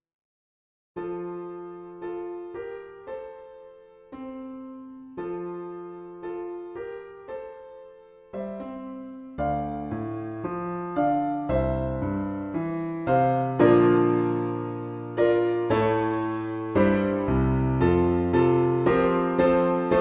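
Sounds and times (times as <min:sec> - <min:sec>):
solo piano chords: 0:01.0 - 0:20.0.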